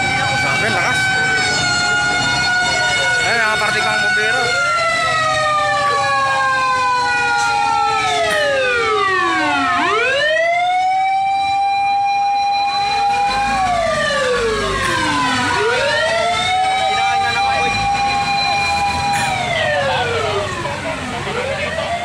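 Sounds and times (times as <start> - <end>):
fire truck siren wailing: 0.0 - 22.0.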